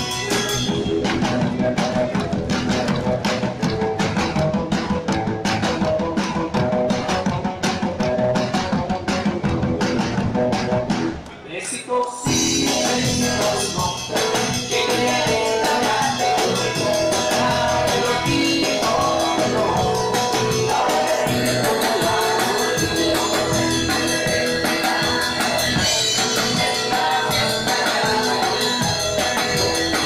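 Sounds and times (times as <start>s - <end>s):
live rock band playing: 0.0s - 11.2s, 12.3s - 30.0s.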